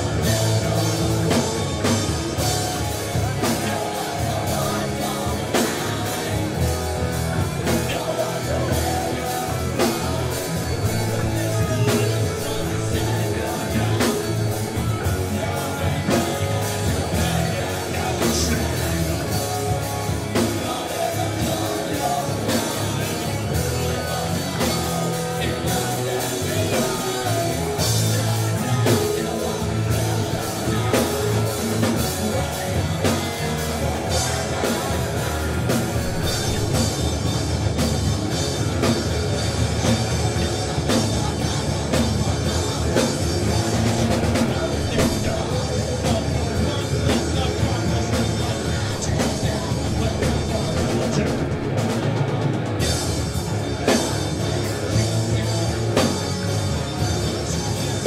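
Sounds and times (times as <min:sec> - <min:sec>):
bass guitar: 0:00.0 - 0:58.0
distorted electric guitars: 0:00.0 - 0:58.0
drum kit and cymbals: 0:00.0 - 0:58.0.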